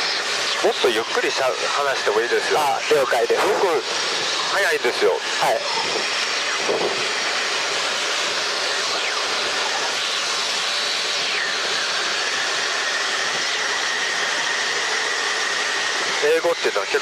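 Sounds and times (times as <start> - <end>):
helicopter cabin noise: 0.0 - 17.0.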